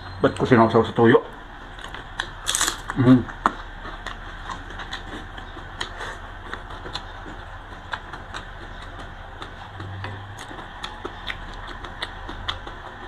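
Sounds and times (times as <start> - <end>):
steady low hum: 0.0 - 13.0
person chewing: 1.6 - 13.0.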